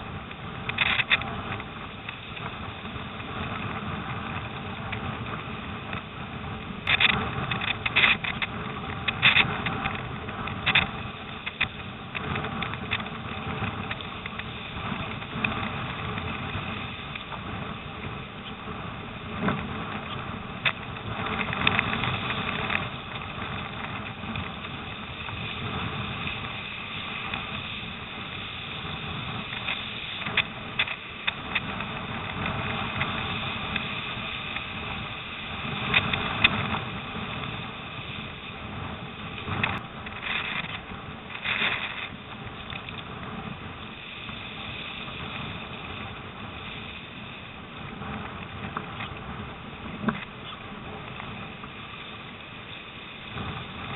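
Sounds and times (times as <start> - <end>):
water rushing along hull: 0.0 - 53.9
wind buffeting microphone: 0.0 - 53.9.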